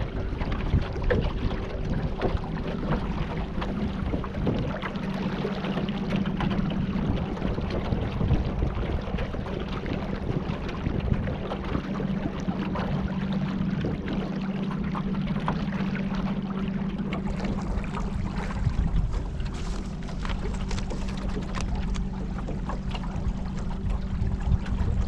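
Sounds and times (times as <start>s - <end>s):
boat motor humming: 0.0s - 25.0s
water splashes and drips: 0.0s - 25.0s.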